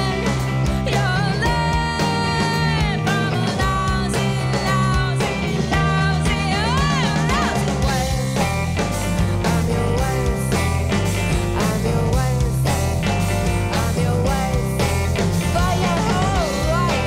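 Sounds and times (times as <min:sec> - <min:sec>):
bass guitar: 0:00.0 - 0:17.0
electric guitar: 0:00.0 - 0:17.0
steady drum beat: 0:00.0 - 0:17.0
woman singing: 0:00.0 - 0:17.0.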